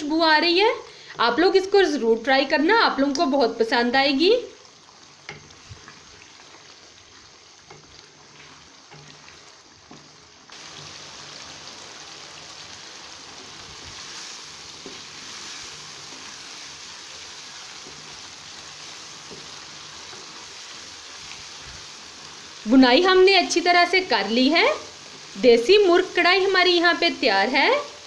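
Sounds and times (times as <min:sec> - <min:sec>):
curry sizzling in a wok: 0:00.0 - 0:28.0.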